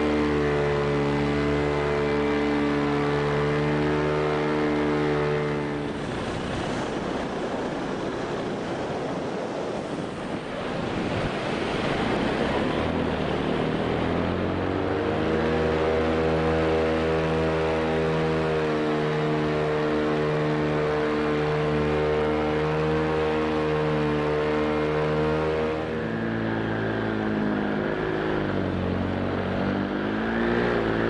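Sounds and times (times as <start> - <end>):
rush of wind: 0.0 - 22.8, 23.4 - 31.0
paramotor engine running: 0.0 - 31.0.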